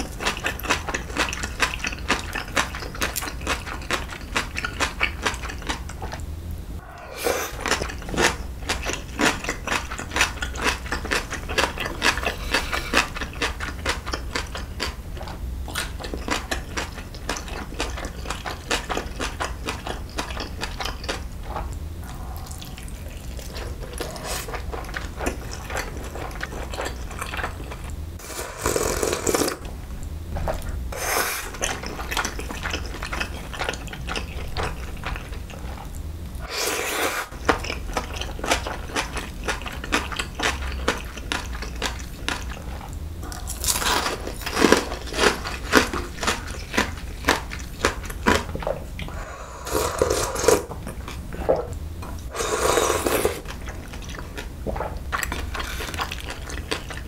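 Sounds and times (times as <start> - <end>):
chewing with wet mouth clicks: 0.0 - 6.2, 7.6 - 27.9, 31.6 - 36.0, 37.4 - 48.6, 53.4 - 57.0.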